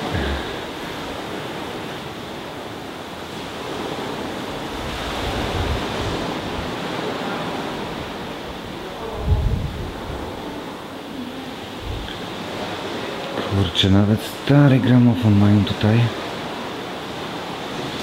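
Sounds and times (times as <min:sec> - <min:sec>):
sea surf rushing: 0:00.0 - 0:18.0
wind: 0:00.0 - 0:18.0.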